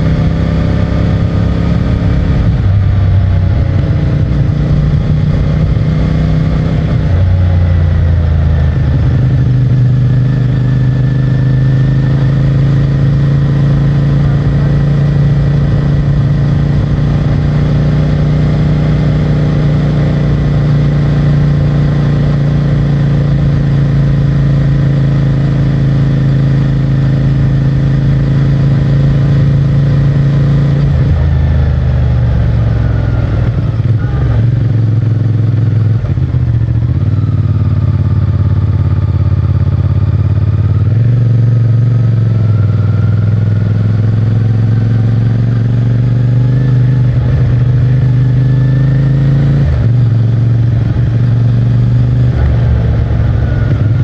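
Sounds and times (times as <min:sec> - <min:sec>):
motorcycle engine on the road: 0:00.0 - 0:54.0.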